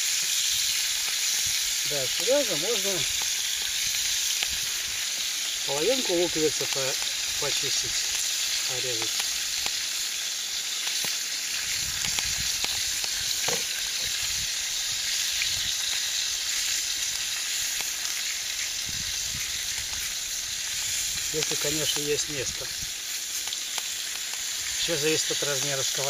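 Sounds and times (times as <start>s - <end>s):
fish frying in oil: 0.0s - 26.0s.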